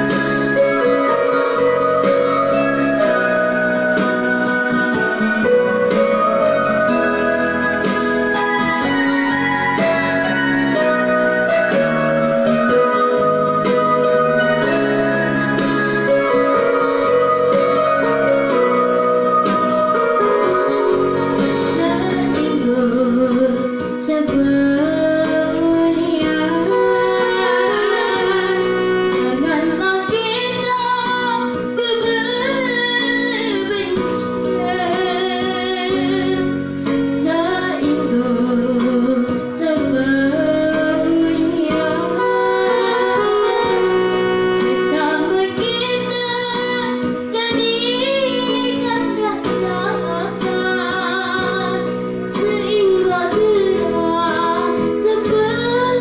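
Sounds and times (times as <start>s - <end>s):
instrumental accompaniment: 0.0s - 56.0s
girl singing with vibrato: 4.8s - 56.0s.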